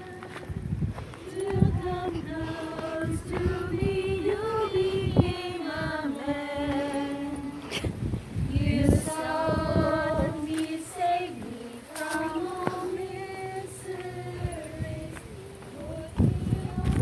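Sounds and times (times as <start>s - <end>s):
woman singing slow melody: 0.0s - 0.6s, 1.3s - 17.0s.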